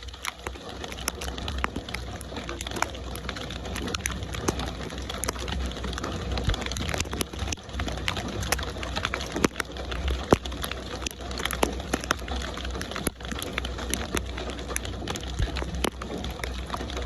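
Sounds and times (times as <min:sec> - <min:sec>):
raindrops clicking close by: 0:00.0 - 0:17.0
steady rainfall: 0:00.0 - 0:17.0.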